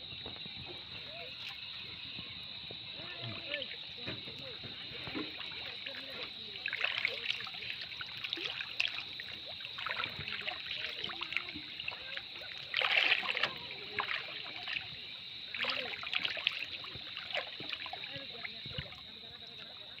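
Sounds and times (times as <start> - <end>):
river water splashing and dripping: 0.0 - 20.0.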